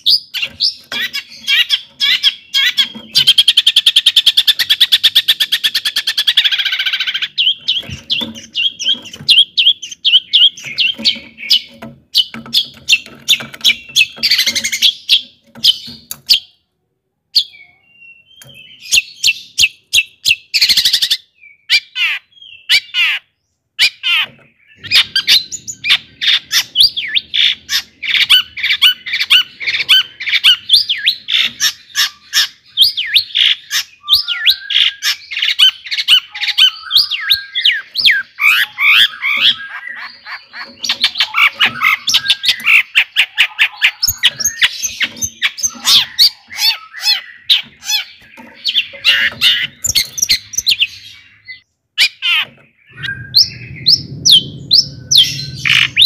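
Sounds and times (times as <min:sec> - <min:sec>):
bird singing rapid chirps: 0:00.0 - 0:16.6, 0:17.3 - 0:56.0.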